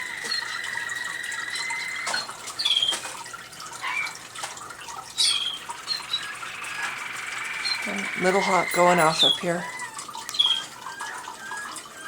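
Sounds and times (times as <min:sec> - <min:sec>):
canaries singing: 0:00.0 - 0:04.4, 0:05.0 - 0:12.0
water fountain trickling: 0:00.0 - 0:12.0.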